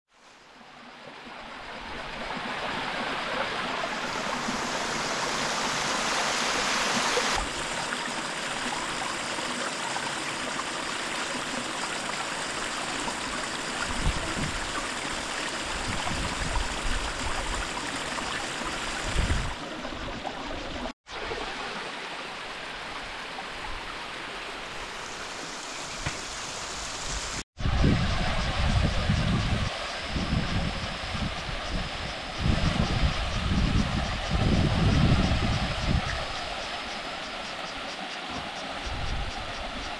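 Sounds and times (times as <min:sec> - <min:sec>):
stream rushing over rocks: 0:01.1 - 0:33.1.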